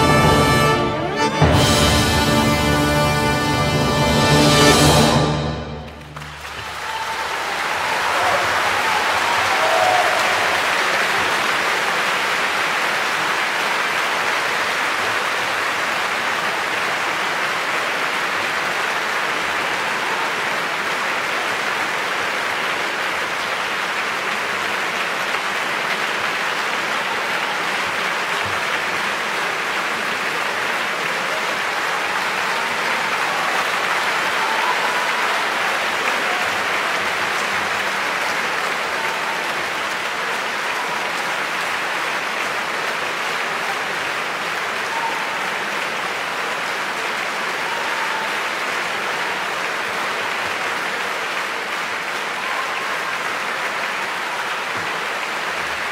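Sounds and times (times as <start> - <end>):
audience applauding: 0.0 - 55.9.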